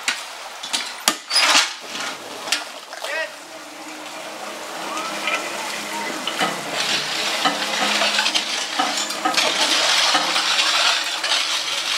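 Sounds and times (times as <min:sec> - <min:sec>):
rushing water: 0:00.0 - 0:11.9
rakes dragging gravel: 0:01.3 - 0:11.9.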